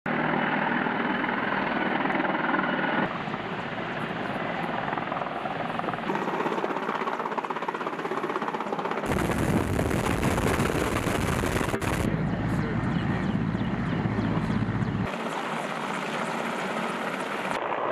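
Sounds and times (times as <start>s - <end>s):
helicopter rotors chopping: 0.1s - 17.9s.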